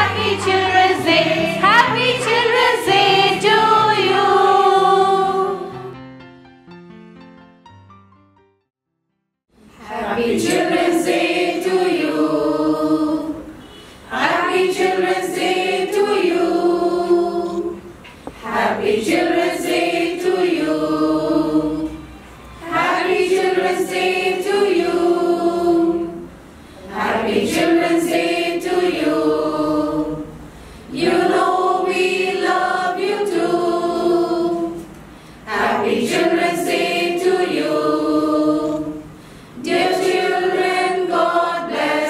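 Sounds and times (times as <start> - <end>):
choir singing: 0.0 - 6.0, 9.6 - 42.0.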